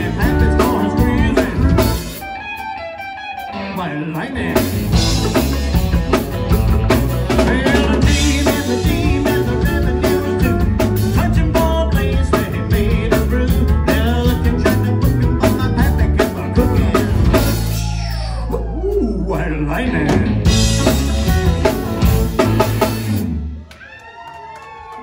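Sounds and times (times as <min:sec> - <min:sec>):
drum kit beat: 0:00.0 - 0:02.8, 0:04.5 - 0:19.2, 0:20.0 - 0:23.6
pedal steel guitar: 0:00.0 - 0:23.4
live country band playing: 0:00.0 - 0:23.7.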